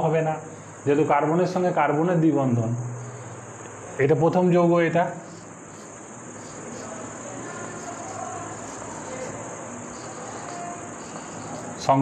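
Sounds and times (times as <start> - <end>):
crickets chirring: 0.0 - 12.0
room noise hiss: 0.0 - 12.0.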